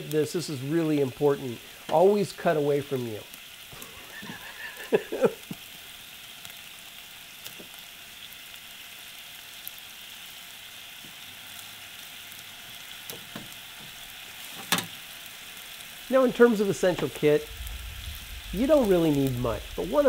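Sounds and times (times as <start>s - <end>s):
gas burner hissing: 0.0s - 20.0s.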